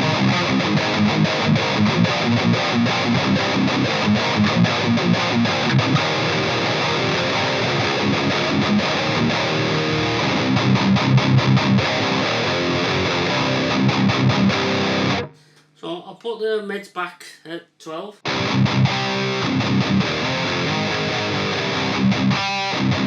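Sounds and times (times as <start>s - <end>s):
distorted electric guitar chugging: 0.0s - 15.6s, 18.2s - 23.0s.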